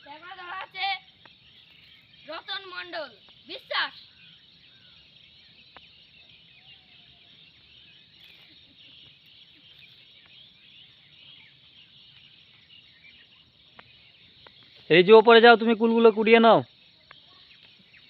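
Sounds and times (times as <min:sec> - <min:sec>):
bird calls: 0:00.0 - 0:18.0
birds and insects chirping: 0:00.0 - 0:18.0.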